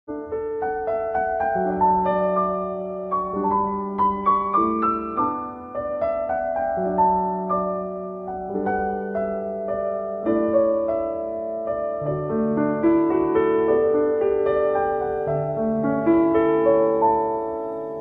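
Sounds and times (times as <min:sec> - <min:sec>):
gentle piano music: 0:00.1 - 0:18.0.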